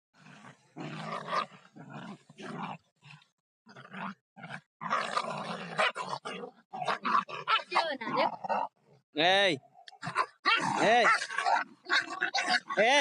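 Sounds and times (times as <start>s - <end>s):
dogs growling and snarling: 0.2s - 9.0s, 9.6s - 13.0s.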